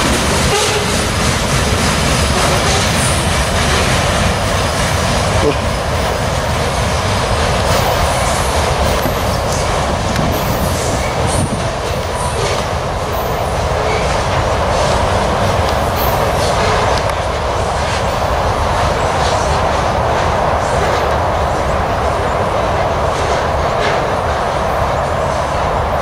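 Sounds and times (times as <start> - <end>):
train wheels rolling on track: 0.0 - 26.0.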